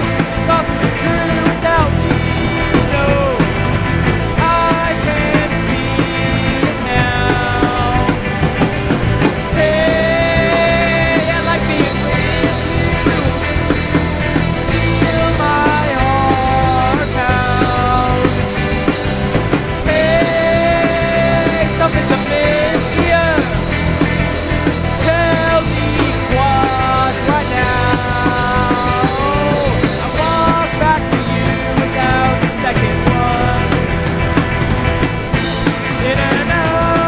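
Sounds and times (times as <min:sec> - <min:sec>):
indie rock band playing: 0:00.0 - 0:37.0
lead melody with bending notes: 0:00.0 - 0:37.0.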